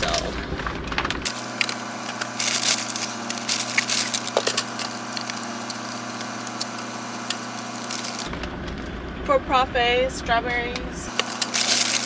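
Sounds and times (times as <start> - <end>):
packaging crinkling and clicking: 0.0 - 8.8, 11.1 - 12.0.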